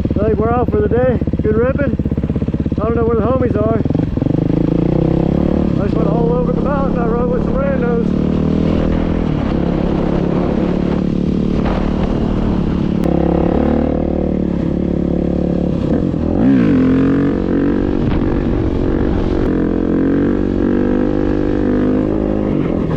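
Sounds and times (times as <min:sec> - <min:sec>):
dirt bike engine running: 0:00.0 - 0:22.9.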